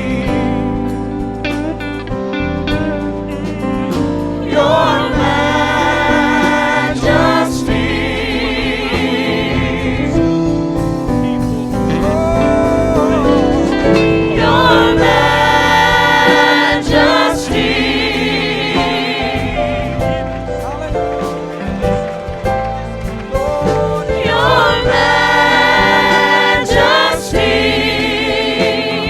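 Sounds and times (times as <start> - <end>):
instrumental accompaniment: 0.0 - 29.0
voices singing with vibrato: 3.7 - 10.6, 11.9 - 29.0.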